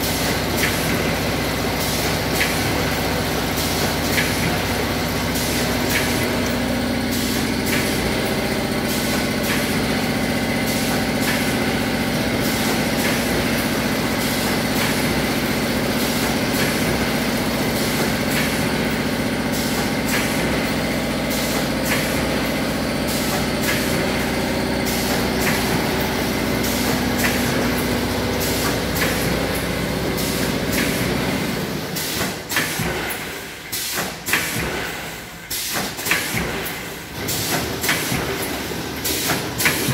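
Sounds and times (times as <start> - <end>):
machinery clicking and clattering: 0.0 - 39.9
packing machine humming: 0.0 - 39.9.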